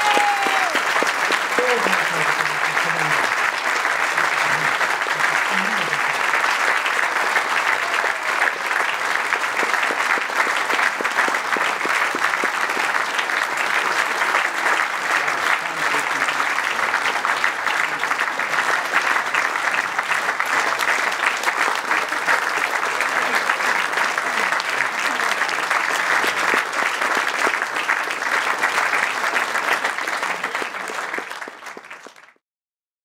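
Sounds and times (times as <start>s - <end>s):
audience applauding: 0.0s - 32.4s.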